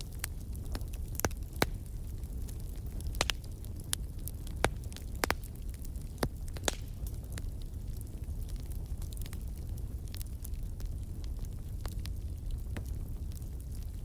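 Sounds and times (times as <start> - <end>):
fire pops and snaps: 0.0 - 14.0
low rumble of fire: 0.0 - 14.0.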